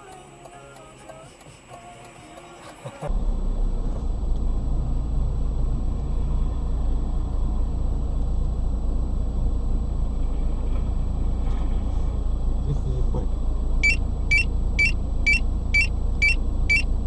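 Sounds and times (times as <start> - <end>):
moving car engine and road noise: 0.0 - 17.0.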